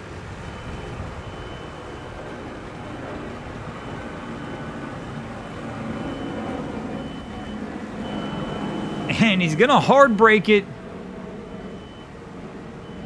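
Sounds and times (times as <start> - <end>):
outboard motors droning: 0.0 - 13.0.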